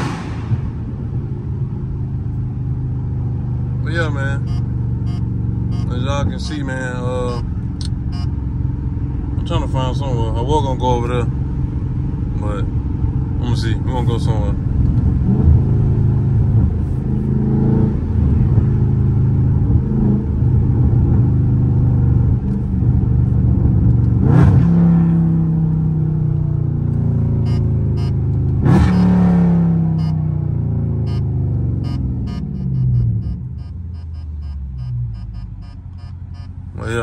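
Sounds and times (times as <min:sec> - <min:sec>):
car engine revving: 0:00.0 - 0:10.4, 0:11.0 - 0:37.0.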